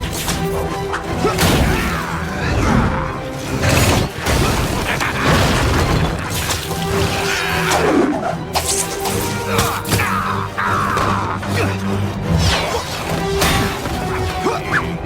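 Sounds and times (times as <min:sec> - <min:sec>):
action music score: 0:00.0 - 0:15.0.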